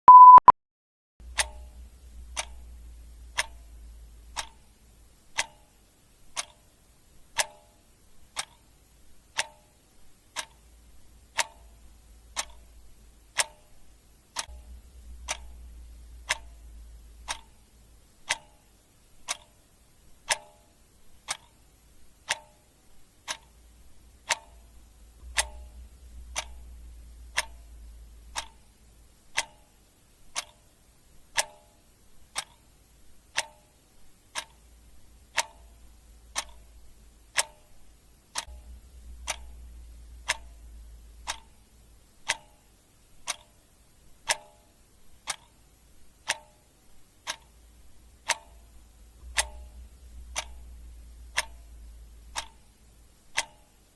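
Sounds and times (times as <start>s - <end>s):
faint low rumble: 1.2s - 7.5s, 8.1s - 53.9s
clock ticking: 1.2s - 53.9s.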